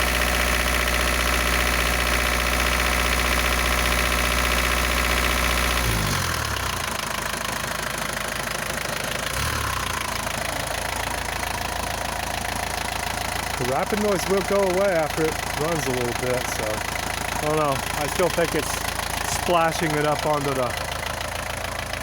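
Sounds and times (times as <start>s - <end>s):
diesel engine idling: 0.0s - 22.0s
rapid engine tapping: 0.0s - 22.0s.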